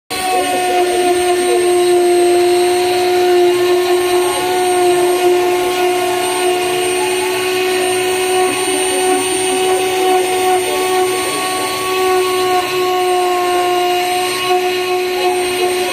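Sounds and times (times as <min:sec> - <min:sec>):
router spindle cutting wood: 0:00.1 - 0:15.9.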